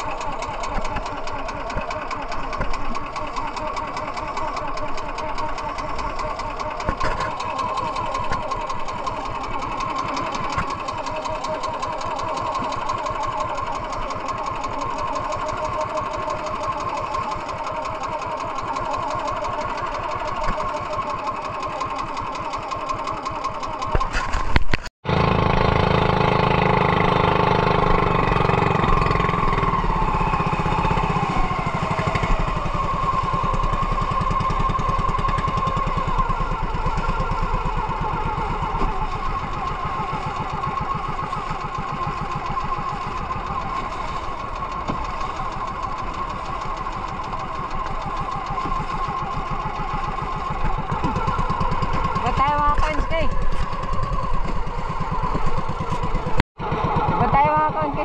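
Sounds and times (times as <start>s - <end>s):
boat engine running: 0.0s - 58.0s
wind: 0.0s - 58.0s.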